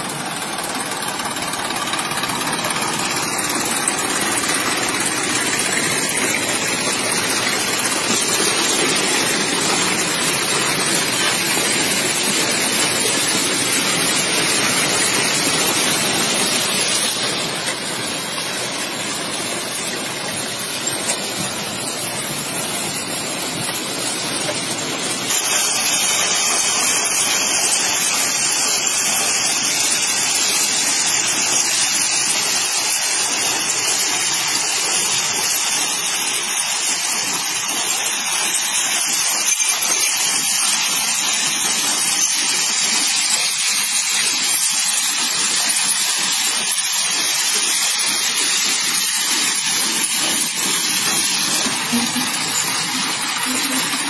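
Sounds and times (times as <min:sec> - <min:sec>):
stones pouring from chute: 0:00.0 - 0:54.0.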